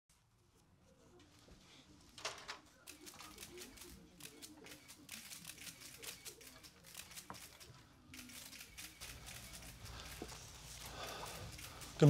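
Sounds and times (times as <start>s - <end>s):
faint rustling and crinkling: 0.1s - 12.0s.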